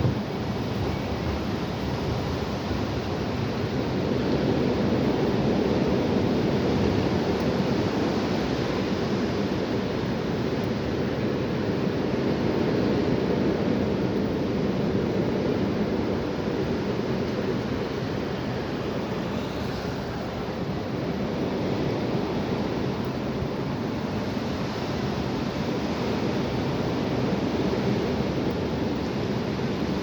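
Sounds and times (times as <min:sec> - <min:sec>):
strong wind blowing: 0:00.0 - 0:30.0.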